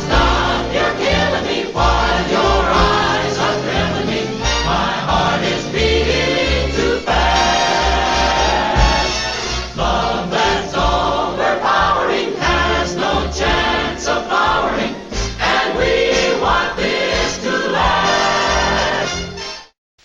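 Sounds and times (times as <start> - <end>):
choir singing: 0.0 - 19.4
orchestral music: 0.0 - 19.8.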